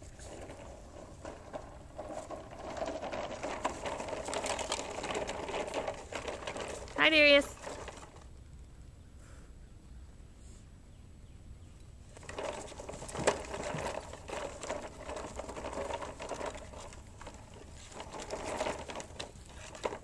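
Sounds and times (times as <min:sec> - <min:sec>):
plastic toy rattling over dirt: 0:00.0 - 0:08.4, 0:12.1 - 0:20.0
rapid uneven clicking: 0:00.0 - 0:08.4, 0:12.1 - 0:20.0.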